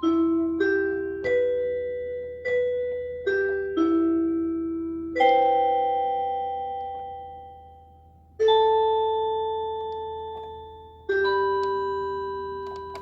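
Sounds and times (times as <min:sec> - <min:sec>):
bell-like electronic keyboard chords: 0:00.0 - 0:13.0.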